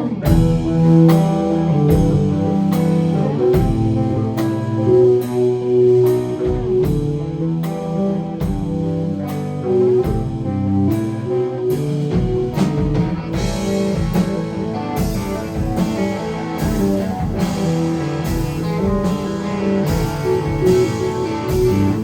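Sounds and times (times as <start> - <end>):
electric guitar lead: 0.0 - 22.0
steady drum beat: 0.0 - 22.0.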